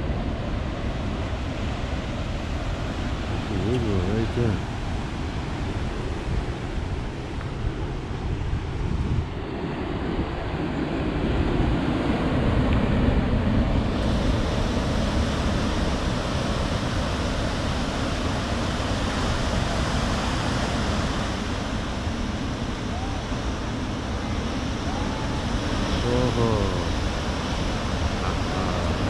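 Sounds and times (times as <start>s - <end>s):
wind buffeting microphone: 0.0s - 25.9s
ocean surf breaking: 0.0s - 29.0s.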